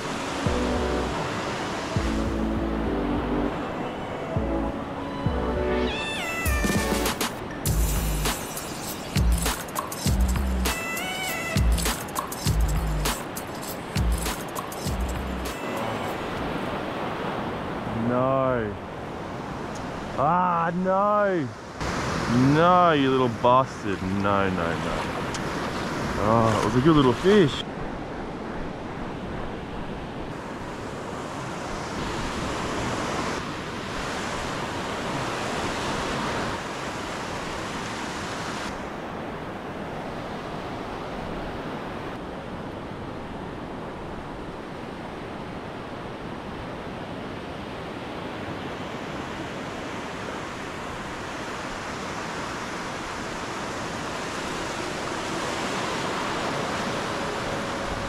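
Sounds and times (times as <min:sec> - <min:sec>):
ocean surf in shallow water: 0:00.0 - 0:58.0.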